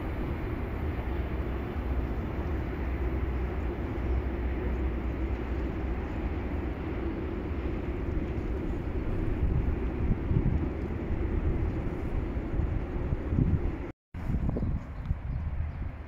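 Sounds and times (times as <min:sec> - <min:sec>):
distant electric train rumble: 0:00.0 - 0:16.0.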